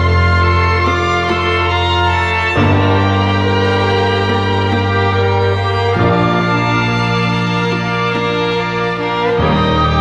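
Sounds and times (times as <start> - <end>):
music with slow sustained chords: 0.0 - 10.0.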